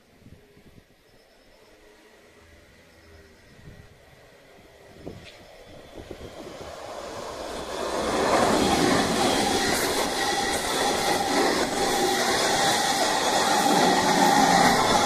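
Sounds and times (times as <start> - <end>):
faint train whine: 0.0 - 15.0
train rolling past: 0.3 - 15.0.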